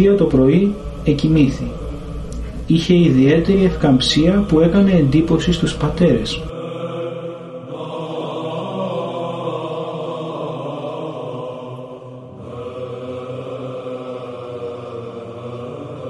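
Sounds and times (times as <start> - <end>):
voices chanting long sustained notes: 0.0 - 16.0.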